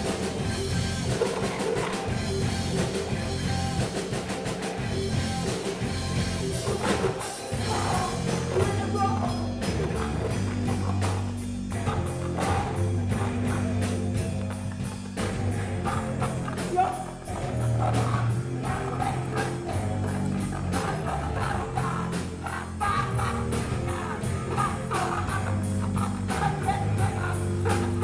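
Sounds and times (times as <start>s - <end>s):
bass guitar: 0.0s - 28.0s
drum kit beat: 0.0s - 28.0s
electric guitar: 0.0s - 28.0s.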